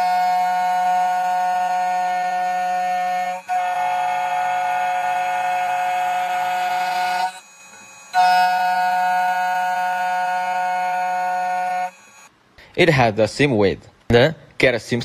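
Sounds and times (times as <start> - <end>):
key cutting machine whining: 0.0 - 12.3.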